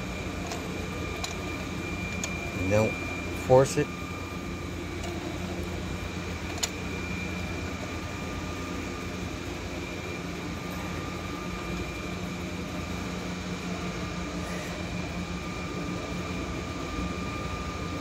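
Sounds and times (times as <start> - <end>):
mechanical hum: 0.0 - 18.0
thin high whine: 0.0 - 18.0.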